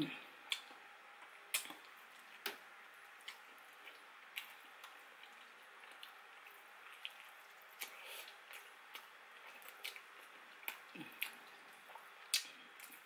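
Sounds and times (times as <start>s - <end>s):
wet chewing and smacking: 0.5s - 13.0s.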